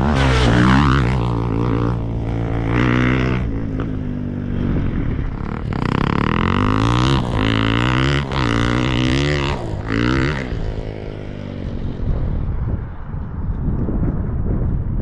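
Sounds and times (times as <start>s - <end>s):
motorcycle engine revving: 0.0s - 12.5s.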